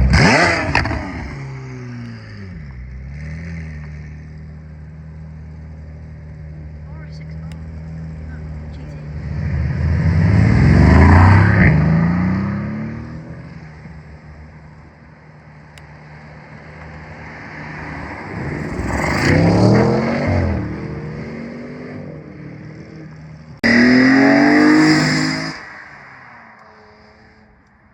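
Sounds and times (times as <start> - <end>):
sports car engines revving past: 0.0 - 27.9.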